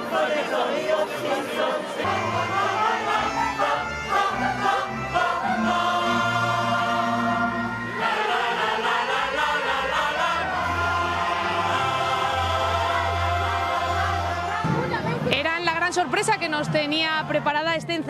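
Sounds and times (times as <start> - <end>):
choir singing long held notes: 0.0 - 15.3.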